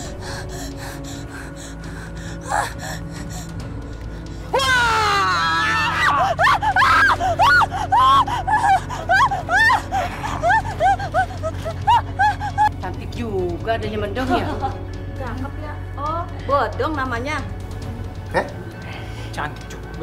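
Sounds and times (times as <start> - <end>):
eerie droning music: 0.0 - 20.0.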